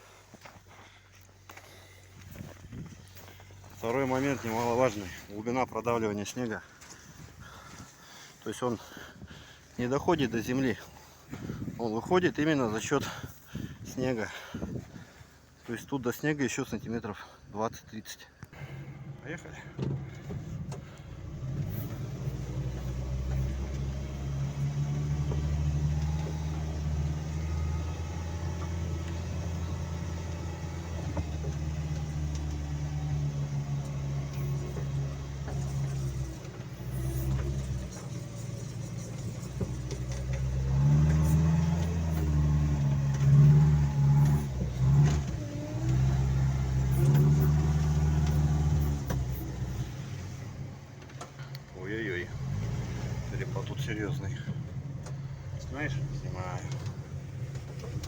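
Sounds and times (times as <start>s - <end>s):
car engine working under load: 0.0s - 15.6s, 18.5s - 58.0s.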